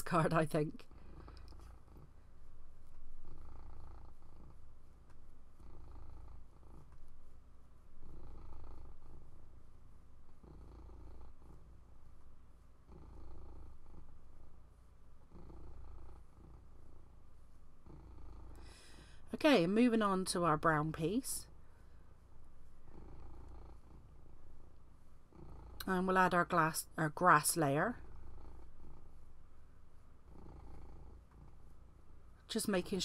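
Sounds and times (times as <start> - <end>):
cat purring: 0.0 - 33.0.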